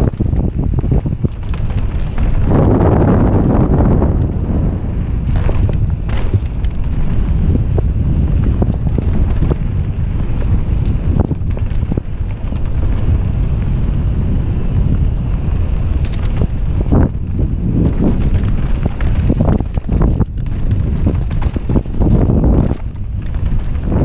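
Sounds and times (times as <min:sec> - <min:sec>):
bike knocks and rattles: 0:00.0 - 0:04.4, 0:05.0 - 0:24.0
wind buffeting microphone: 0:00.0 - 0:24.0.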